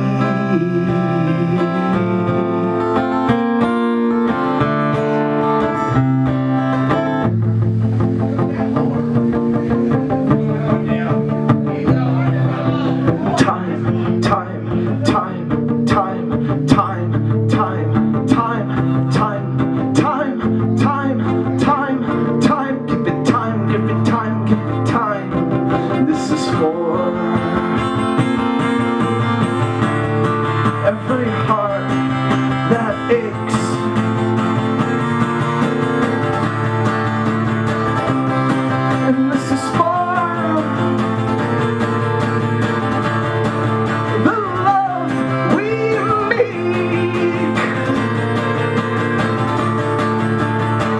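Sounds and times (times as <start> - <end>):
man singing: 0.0 - 6.0, 9.6 - 49.8
strummed acoustic guitar: 0.0 - 50.9.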